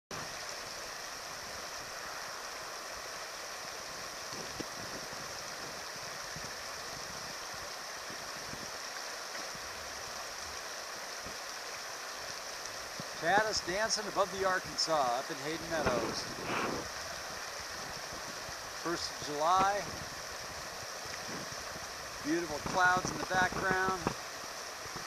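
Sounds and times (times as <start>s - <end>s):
river rushing over its bed: 0.1s - 25.0s.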